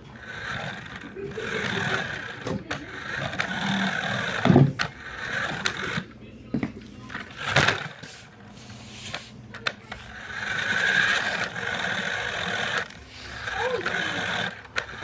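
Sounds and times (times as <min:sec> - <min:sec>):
small electric motor whirring: 0:00.0 - 0:06.1, 0:07.1 - 0:15.0.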